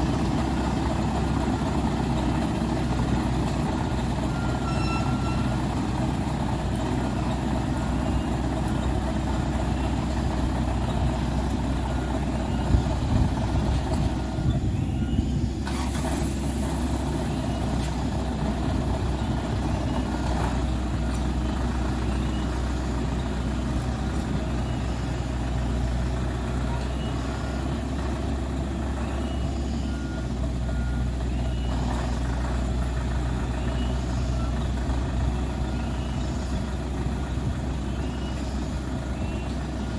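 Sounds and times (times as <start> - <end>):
truck diesel engine running: 0.0 - 39.9
reversing alarm beeping: 0.2 - 15.8, 17.0 - 39.9.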